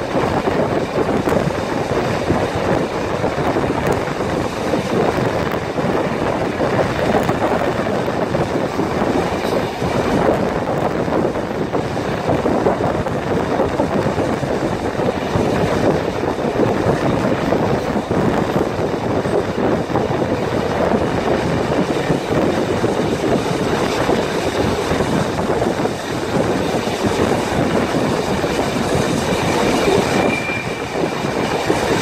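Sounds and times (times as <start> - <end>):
train running on track: 0.0 - 32.0
wind rushing over microphone: 0.0 - 32.0.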